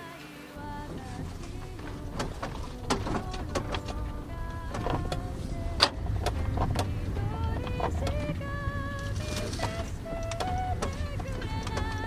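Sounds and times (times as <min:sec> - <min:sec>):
held pitched notes: 0:00.5 - 0:12.0.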